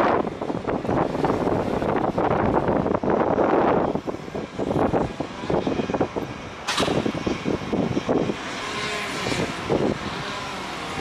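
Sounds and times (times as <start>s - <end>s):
engines running: 0.0s - 11.0s
wind buffeting microphone: 0.0s - 11.0s.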